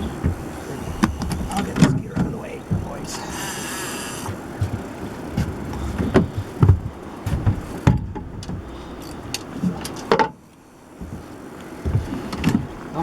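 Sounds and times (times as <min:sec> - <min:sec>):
fishing gear knocking in boat: 0:00.0 - 0:03.3, 0:04.2 - 0:13.0.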